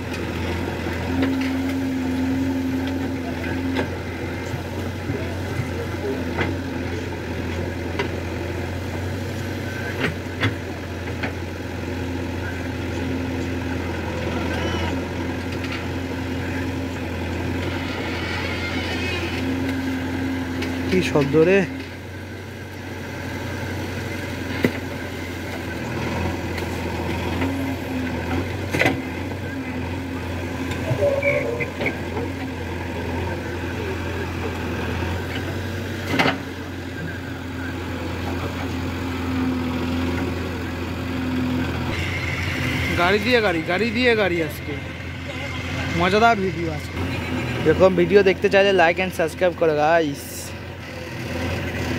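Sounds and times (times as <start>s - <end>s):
backhoe digging mud: 0.0s - 51.9s
diesel engine droning: 0.0s - 51.9s.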